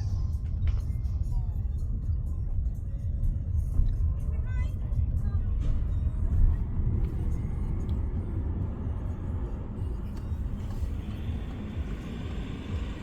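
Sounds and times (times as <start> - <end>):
engine and road noise in car: 0.0 - 13.0.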